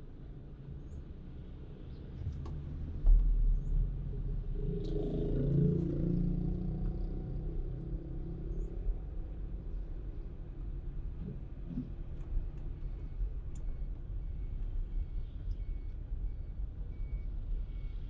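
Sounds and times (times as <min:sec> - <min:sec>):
car engine rumble from inside: 0:00.0 - 0:18.0.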